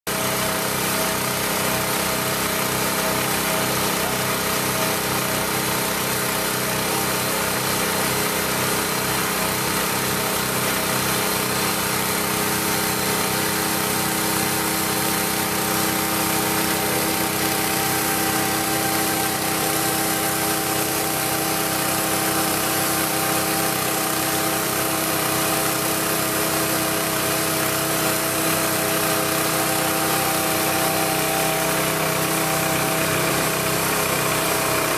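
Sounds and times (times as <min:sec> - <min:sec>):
vacuum pump motor running: 0:00.1 - 0:34.9.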